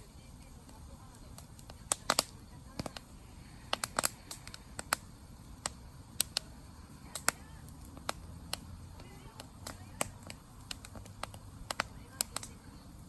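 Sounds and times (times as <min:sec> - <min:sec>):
campfire crackling and popping: 0:00.0 - 0:13.0
low rumble of fire: 0:00.0 - 0:13.0.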